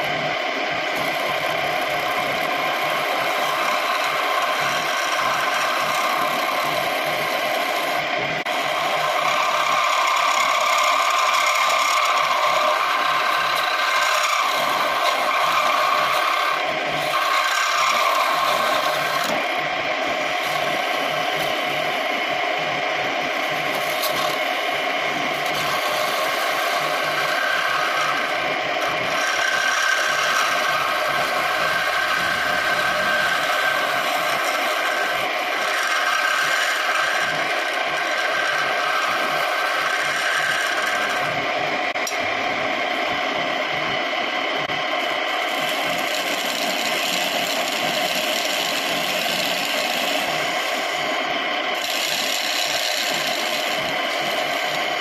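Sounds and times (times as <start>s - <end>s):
lathe motor whine: 0.0s - 55.0s
tool scraping spinning wood: 0.0s - 55.0s.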